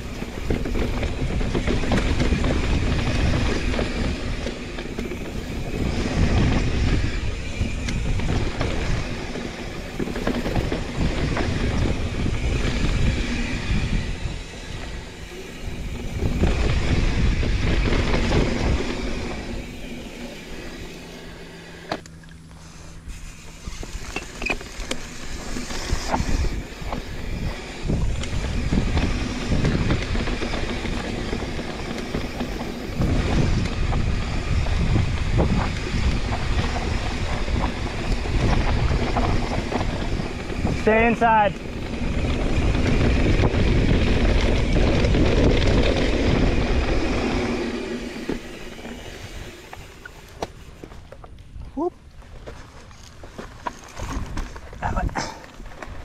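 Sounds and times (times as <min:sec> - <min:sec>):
wind on microphone: 0:00.0 - 0:19.8, 0:25.2 - 0:52.0
bike tyres rolling on dirt: 0:00.0 - 0:56.0.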